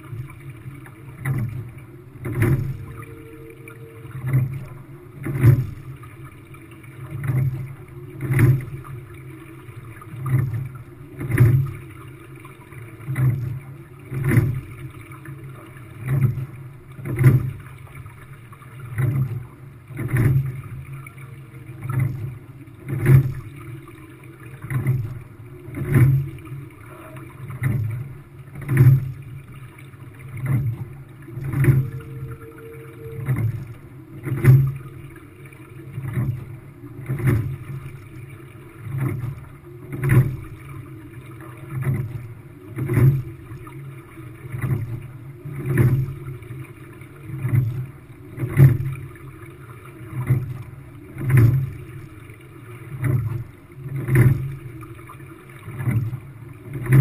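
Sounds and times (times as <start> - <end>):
oars knocking and splashing: 0.0 - 6.1, 6.8 - 12.0, 12.9 - 15.1, 15.9 - 18.2, 18.8 - 20.9, 21.7 - 57.0
water rushing along hull: 0.0 - 57.0.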